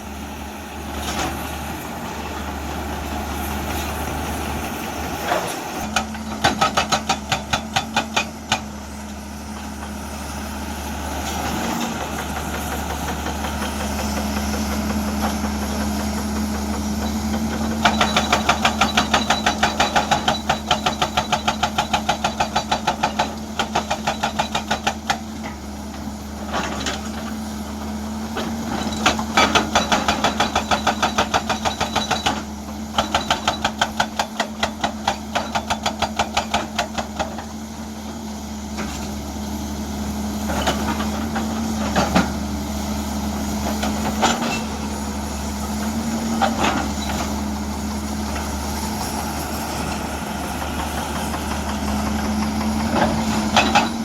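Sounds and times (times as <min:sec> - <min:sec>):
excavator diesel engine running: 0:00.0 - 0:54.0
hydraulic breaker hammer pounding rock: 0:03.6 - 0:09.0, 0:11.2 - 0:37.9, 0:40.4 - 0:42.6, 0:43.3 - 0:54.0.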